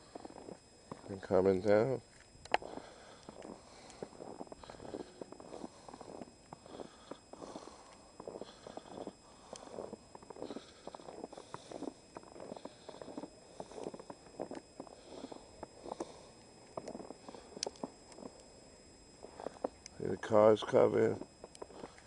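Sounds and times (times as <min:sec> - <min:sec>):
footsteps crunching through snow: 0:00.0 - 0:18.4.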